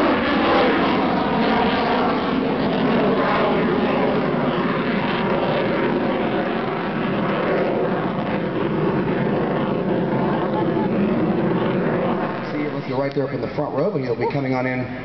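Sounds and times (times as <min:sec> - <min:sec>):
jet aircraft flying by: 0:00.0 - 0:15.0.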